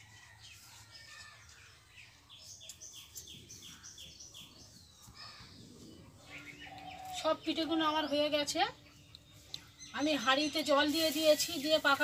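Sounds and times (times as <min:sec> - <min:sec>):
bird chirping: 0:00.0 - 0:11.7.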